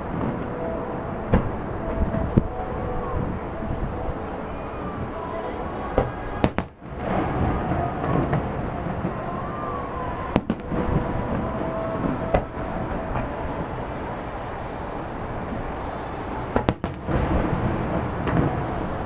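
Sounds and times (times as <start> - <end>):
fireworks bangs: 0.0 - 19.0
rumble of fireworks bursts: 0.0 - 19.0.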